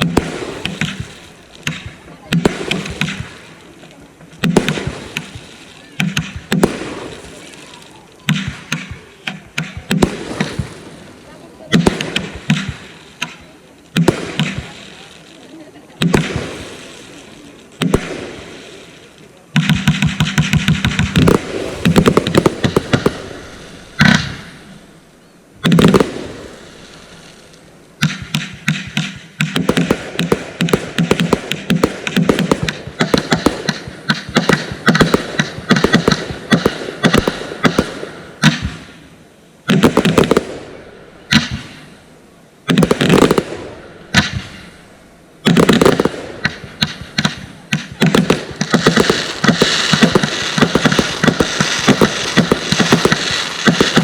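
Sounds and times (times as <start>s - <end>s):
firework hiss: 0.0s - 54.0s
fireworks launching and bursting: 0.0s - 54.0s.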